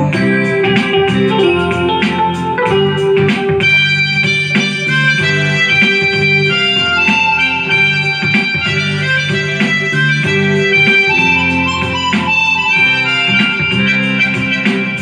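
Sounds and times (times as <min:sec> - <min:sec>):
keyboard melody notes: 0:00.0 - 0:15.0
keyboard rhythm accompaniment: 0:00.0 - 0:15.0.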